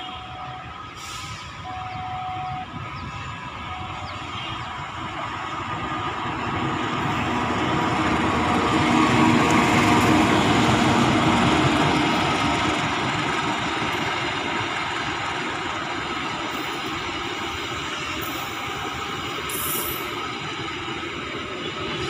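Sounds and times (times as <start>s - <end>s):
diesel locomotive engine: 0.0s - 22.0s
train wheels on rails: 0.0s - 22.0s.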